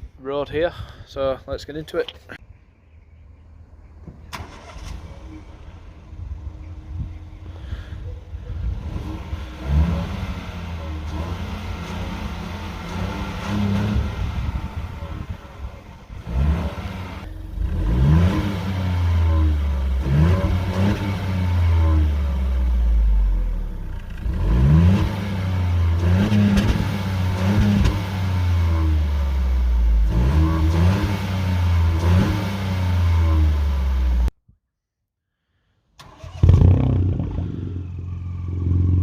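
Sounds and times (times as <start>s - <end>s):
car engine revving: 4.3s - 34.3s, 36.0s - 39.0s.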